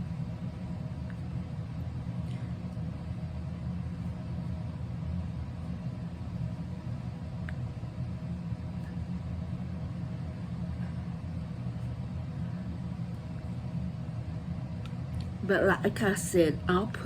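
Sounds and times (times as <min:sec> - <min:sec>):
faint appliance hum: 0:00.0 - 0:17.0
low background rumble: 0:00.0 - 0:17.0.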